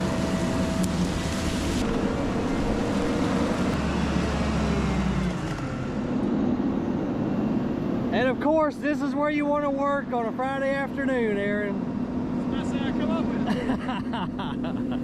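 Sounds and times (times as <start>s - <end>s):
heavy equipment engine running: 0.0s - 15.0s.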